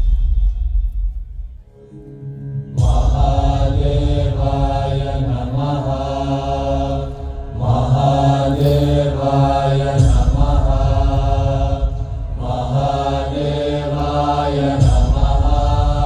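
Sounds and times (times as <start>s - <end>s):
steady low drone: 0.0s - 16.0s
low voices chanting: 2.7s - 16.0s.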